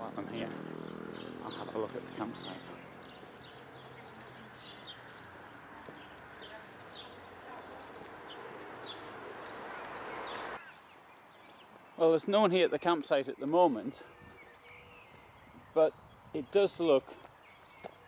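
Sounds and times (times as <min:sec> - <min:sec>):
outdoor background rush: 0:00.0 - 0:18.0
songbirds chirping: 0:00.0 - 0:18.0.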